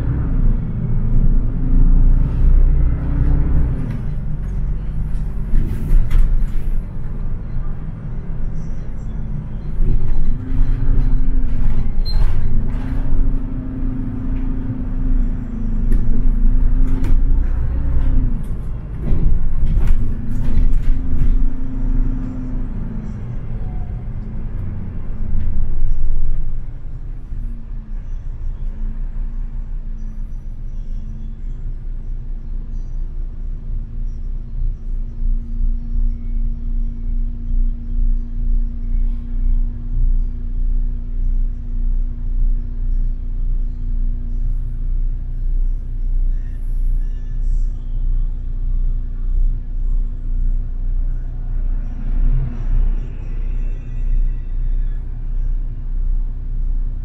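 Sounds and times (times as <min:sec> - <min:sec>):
bus engine and road rumble: 0:00.0 - 0:57.0
droning hum: 0:00.0 - 0:57.0.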